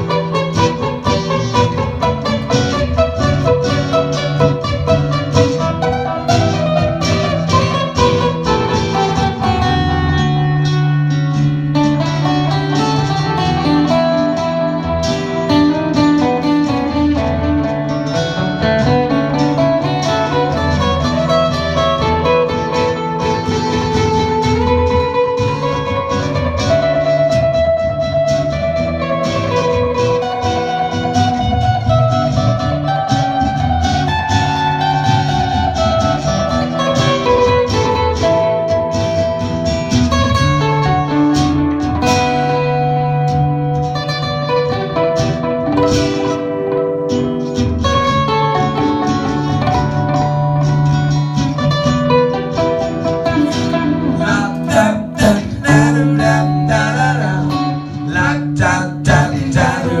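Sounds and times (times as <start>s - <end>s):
acoustic band music: 0.0s - 60.0s
plucked guitar: 0.0s - 60.0s.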